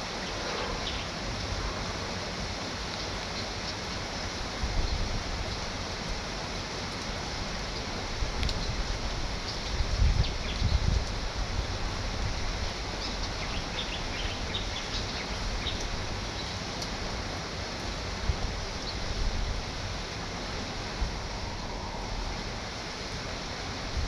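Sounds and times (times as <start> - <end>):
wind rumbling on microphone: 0.0 - 6.4, 7.0 - 24.0
heavy rain: 0.0 - 24.0.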